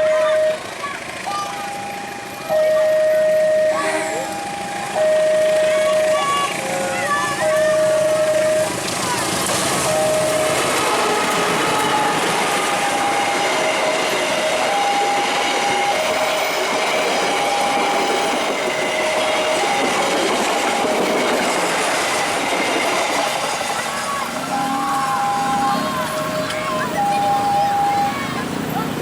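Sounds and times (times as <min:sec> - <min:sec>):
two-tone signal: 0:00.0 - 0:00.7, 0:01.3 - 0:08.8, 0:09.9 - 0:21.3, 0:24.4 - 0:28.3
train wheels clattering on rails: 0:03.9 - 0:29.0.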